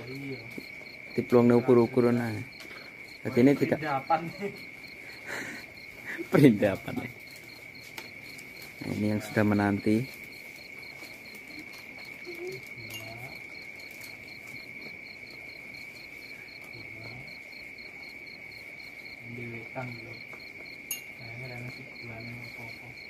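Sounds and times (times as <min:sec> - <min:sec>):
insect high-pitched trill: 0:00.0 - 0:23.0
pulsing insect chirp: 0:00.0 - 0:23.0.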